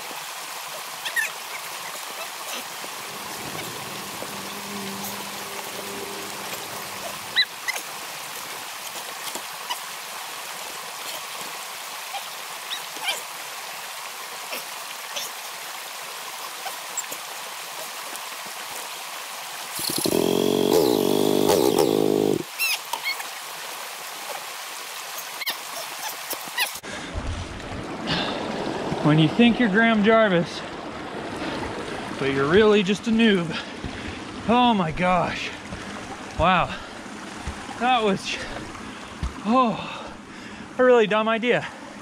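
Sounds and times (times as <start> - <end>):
water running over rocks: 0.0 - 42.0.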